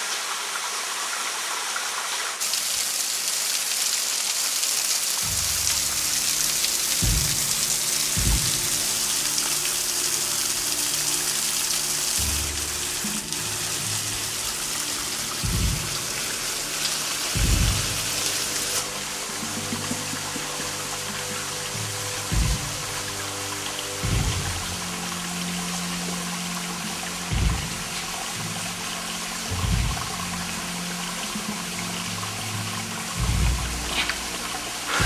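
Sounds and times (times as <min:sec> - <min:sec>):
waterfall rushing hiss: 0:00.0 - 0:35.0
background music low notes: 0:05.2 - 0:35.0.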